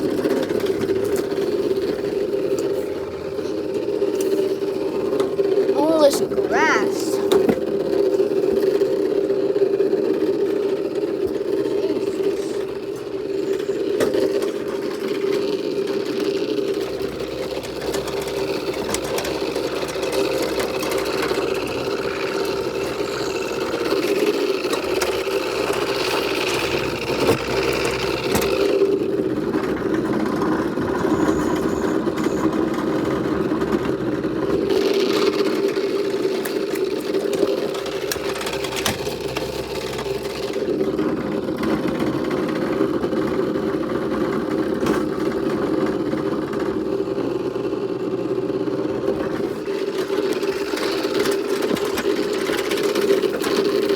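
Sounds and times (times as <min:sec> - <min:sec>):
riding lawnmower engine cutting grass: 0:00.0 - 0:53.9.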